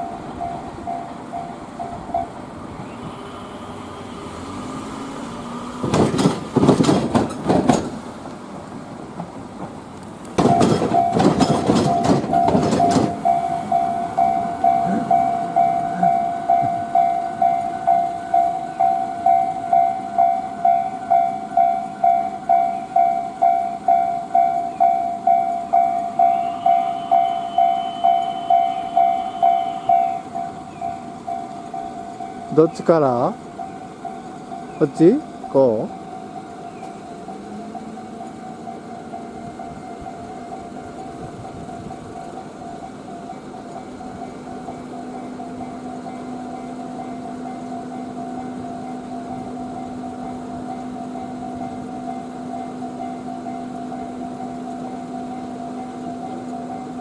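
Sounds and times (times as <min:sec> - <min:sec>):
crossing warning bell ringing: 0:00.0 - 0:08.2, 0:10.2 - 0:57.0
train wheels clattering: 0:05.7 - 0:57.0.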